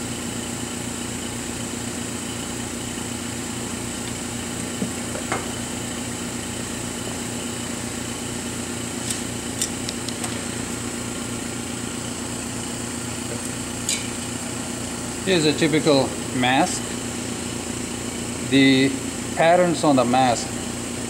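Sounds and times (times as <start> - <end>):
machine hum: 1.1 - 21.0.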